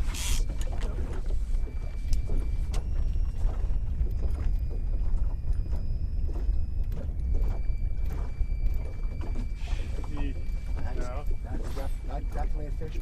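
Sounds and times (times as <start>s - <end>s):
boat engine rumble: 0.0s - 13.0s
faint high steady whine: 0.0s - 13.0s.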